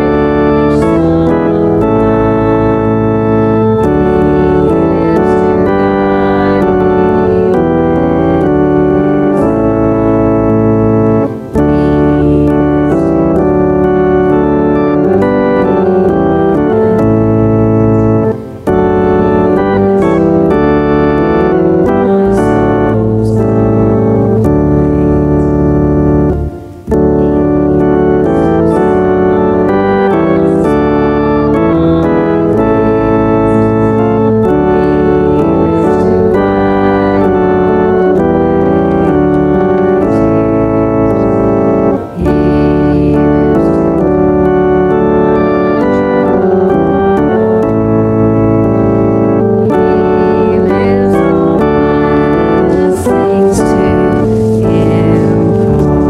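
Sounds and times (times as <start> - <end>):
organ playing slow chords: 0.0 - 56.0.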